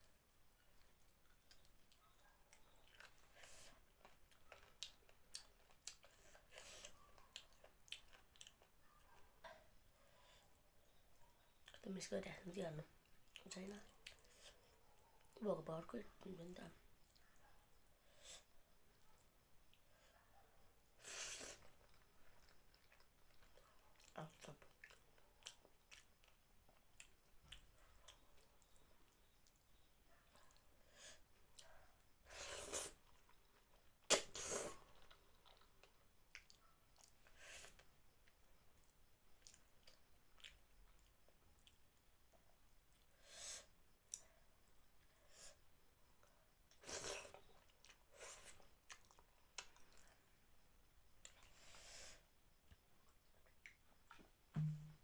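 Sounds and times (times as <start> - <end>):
chewing food: 0.0 - 11.8, 12.8 - 15.4, 16.7 - 18.0, 18.8 - 43.2, 46.0 - 51.7, 52.6 - 54.5.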